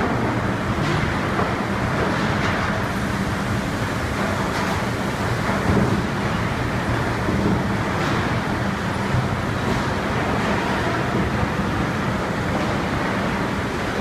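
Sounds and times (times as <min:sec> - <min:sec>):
conveyor running with low hum: 0:00.0 - 0:14.0.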